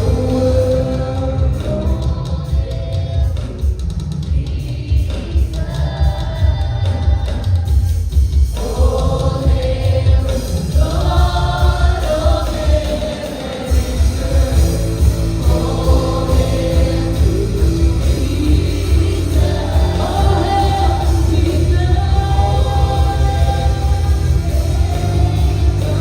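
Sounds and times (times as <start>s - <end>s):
group of voices singing: 0.0s - 26.0s
worship band playing: 0.0s - 26.0s.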